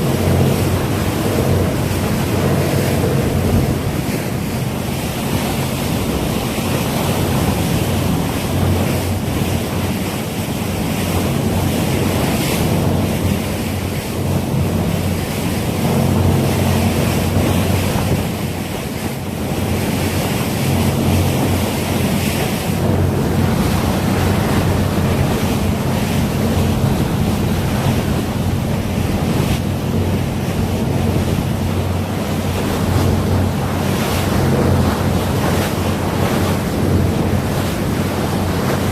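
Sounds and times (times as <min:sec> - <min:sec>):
sea water rushing: 0:00.0 - 0:38.9
wind rumbling on microphone: 0:00.0 - 0:38.9.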